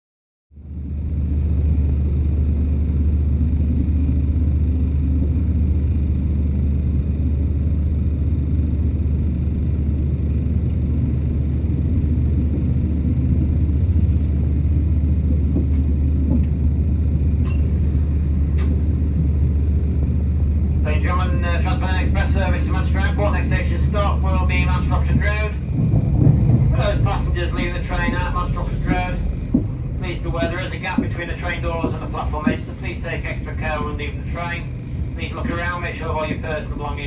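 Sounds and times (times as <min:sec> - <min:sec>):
train rumble inside carriage: 0:00.6 - 0:37.0.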